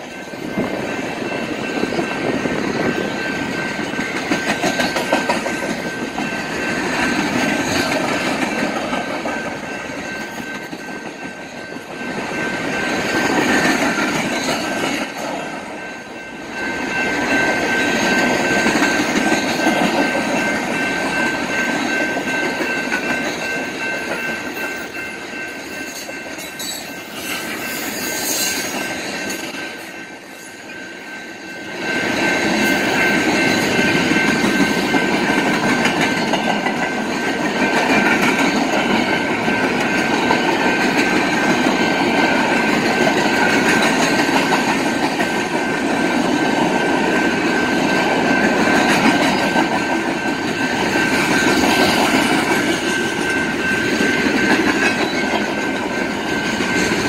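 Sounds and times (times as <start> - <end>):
train wheels clacking over rails: 0.0 - 57.0.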